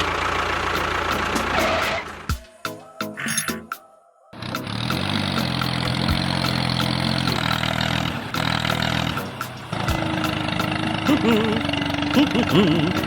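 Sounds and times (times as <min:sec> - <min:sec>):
vehicle engine running: 0:00.0 - 0:02.3, 0:04.4 - 0:13.0.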